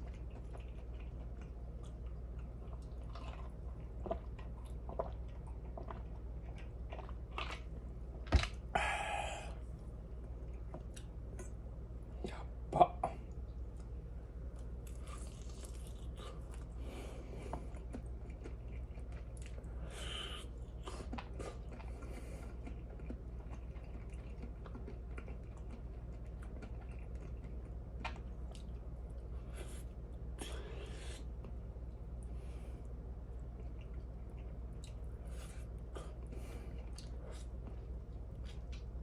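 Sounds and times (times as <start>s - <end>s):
person chewing crunchy food: 0.0s - 9.6s, 14.6s - 31.6s, 33.3s - 39.0s
steady low hum: 0.0s - 39.0s.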